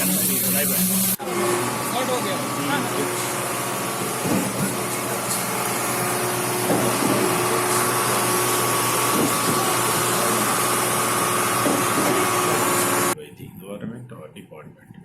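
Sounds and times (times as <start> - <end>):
machine humming and whining: 0.0 - 13.2.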